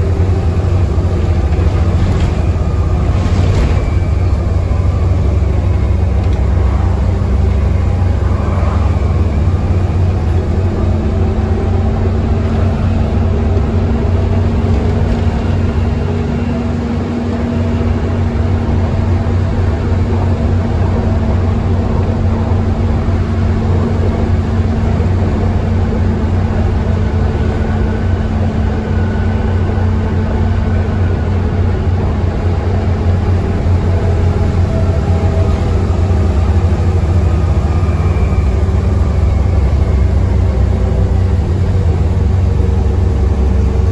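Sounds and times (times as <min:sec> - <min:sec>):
bus diesel engine droning: 0:00.0 - 0:43.9
road noise: 0:00.0 - 0:43.9.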